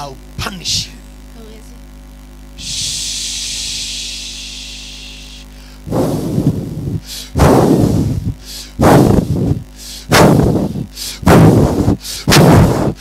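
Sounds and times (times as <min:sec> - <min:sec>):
distorted vocal blasts into microphone: 0:02.6 - 0:13.0.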